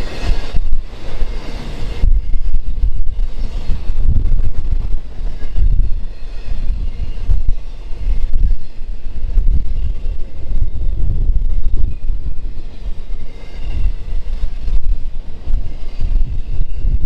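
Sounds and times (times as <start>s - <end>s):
train passing: 0.0s - 17.0s
wind buffeting microphone: 0.0s - 17.0s.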